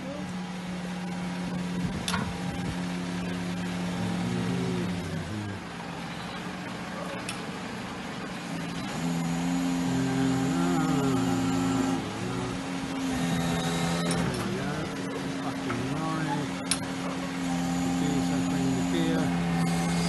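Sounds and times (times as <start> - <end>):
crane engine and hydraulics humming: 0.0 - 20.0.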